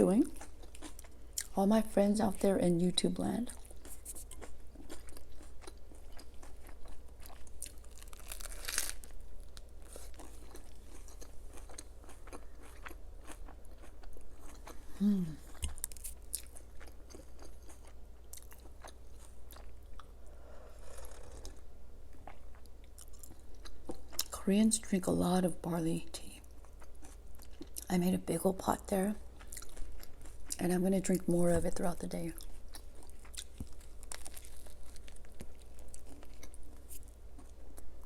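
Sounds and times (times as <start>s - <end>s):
chewing crisp food: 0.2s - 1.6s, 3.4s - 24.4s, 26.4s - 27.9s, 28.5s - 30.8s, 32.3s - 38.0s.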